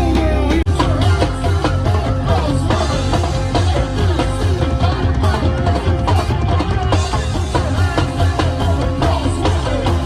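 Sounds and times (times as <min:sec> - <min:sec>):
music with heavy pulsing bass: 0:00.0 - 0:10.0.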